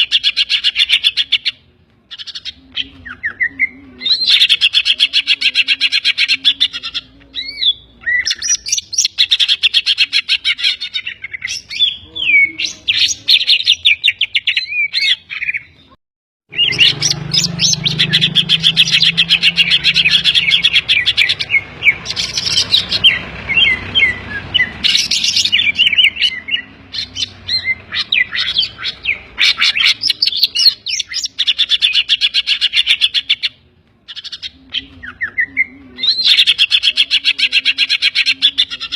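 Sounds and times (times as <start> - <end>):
bird singing chattering song: 0.0 - 38.9.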